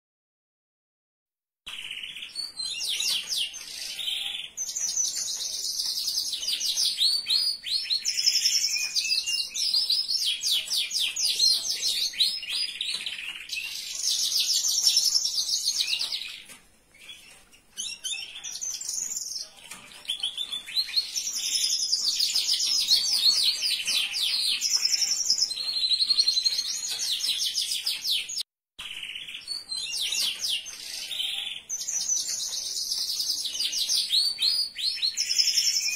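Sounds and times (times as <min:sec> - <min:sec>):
canary singing rolling trills: 0:01.7 - 0:35.9.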